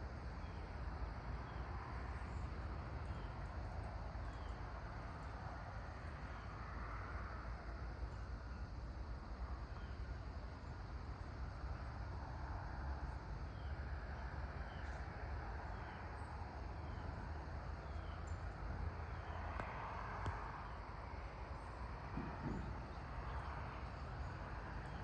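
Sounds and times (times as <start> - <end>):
distant road traffic: 0.0 - 25.0.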